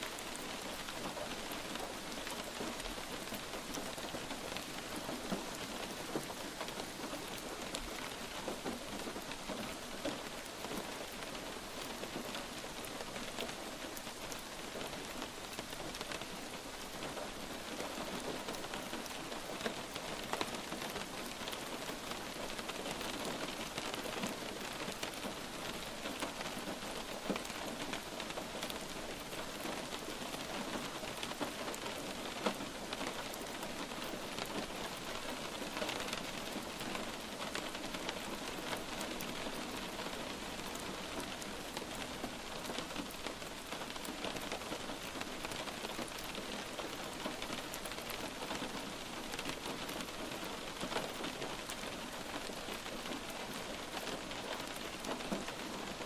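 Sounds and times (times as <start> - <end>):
light rain hissing: 0.0 - 56.0
raindrops ticking: 0.0 - 56.0.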